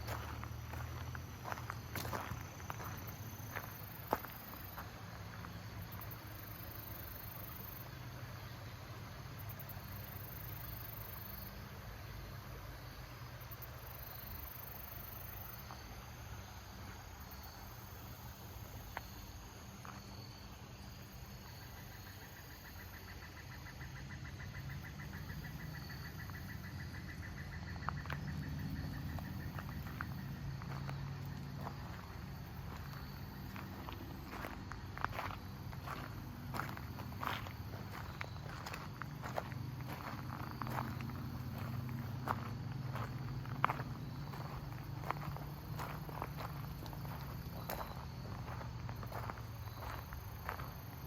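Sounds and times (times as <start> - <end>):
crickets chirping: 0.0 - 51.0
rapid pulsing insect trill: 0.0 - 51.0.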